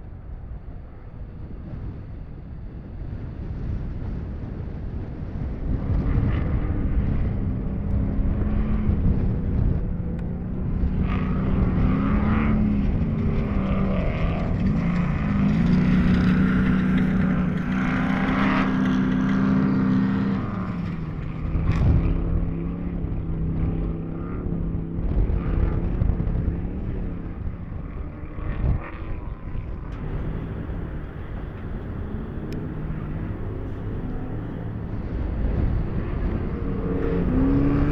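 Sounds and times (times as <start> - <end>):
rumble of wind and terrain: 0.0 - 37.9
off-road vehicle engine revving: 5.6 - 37.9.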